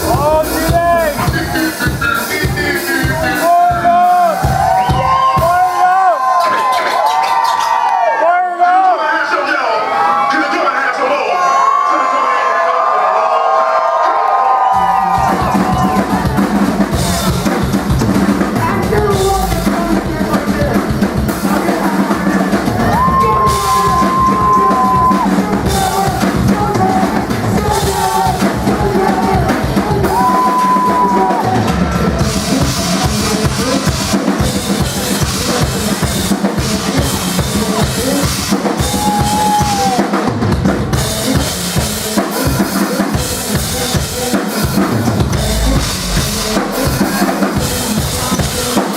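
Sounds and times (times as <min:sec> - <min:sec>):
pounding bass drum and snare: 0:00.0 - 0:07.8, 0:14.8 - 0:48.9
live band music: 0:00.0 - 0:07.9, 0:14.7 - 0:48.9.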